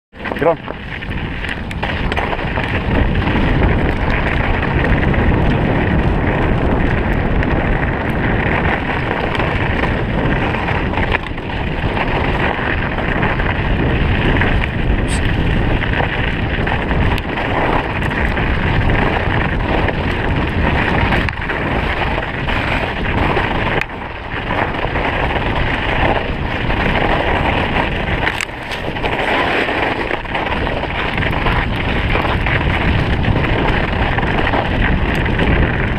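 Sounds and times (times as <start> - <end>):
bike riding noise: 0.1 - 35.9
wind rush on microphone: 0.1 - 35.9.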